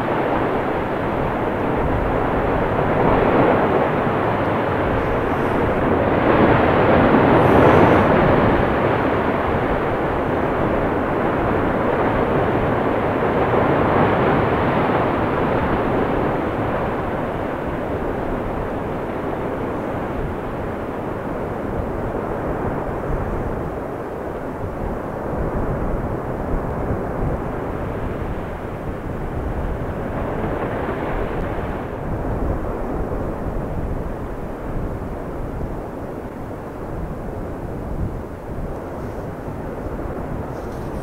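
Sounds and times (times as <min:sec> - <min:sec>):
volcano rushing roar: 0:00.0 - 0:24.3, 0:24.9 - 0:41.0.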